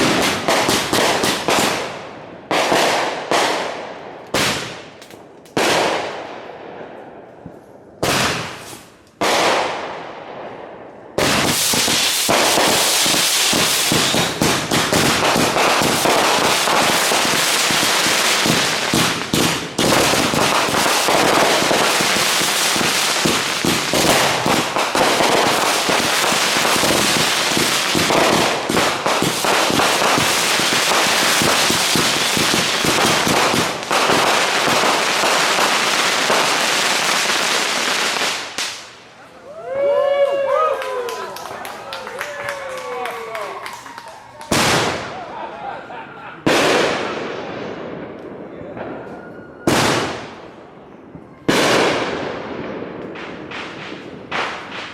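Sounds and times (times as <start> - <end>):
rapid crackling fireworks: 0.0 - 6.8, 8.0 - 39.1, 44.4 - 45.3, 46.4 - 54.9
fireworks bangs: 0.0 - 39.1, 43.3 - 54.9.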